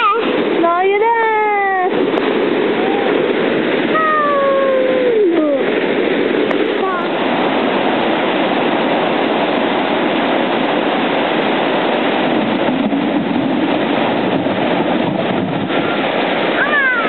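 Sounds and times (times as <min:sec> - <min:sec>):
water rushing over a weir: 0:00.0 - 0:17.0.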